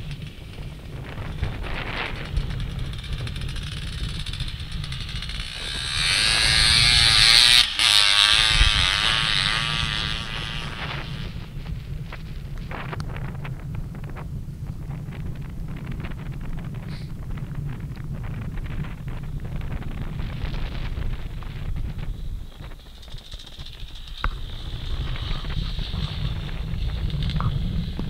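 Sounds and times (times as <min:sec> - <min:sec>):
snow bike engine revving: 0:00.0 - 0:28.0
wind rumbling on microphone: 0:00.0 - 0:28.0.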